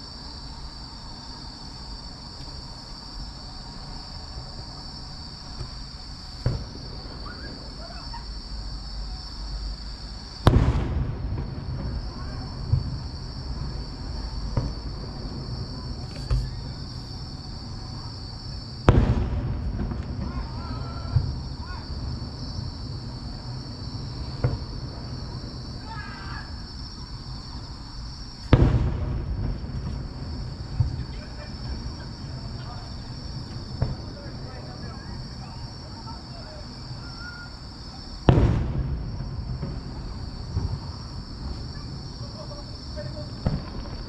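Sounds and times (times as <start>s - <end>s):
fireworks booming: 0.0s - 44.0s
insects chirring: 0.0s - 44.0s
small firework pops: 2.3s - 3.0s, 3.8s - 44.0s.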